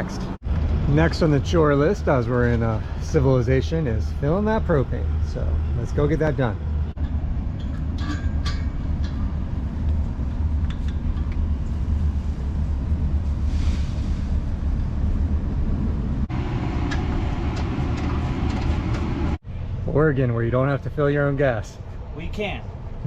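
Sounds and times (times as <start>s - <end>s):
pickup engine and road rumble: 0.0s - 23.0s.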